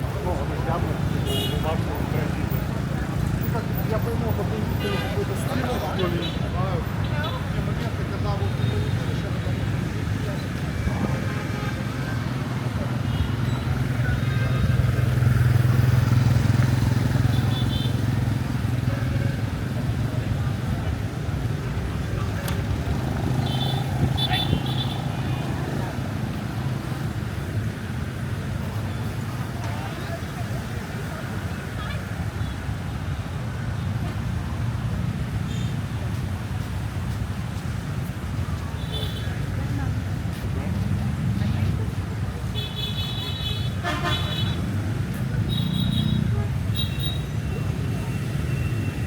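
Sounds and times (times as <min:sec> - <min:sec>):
faint voices: 0:00.0 - 0:49.0.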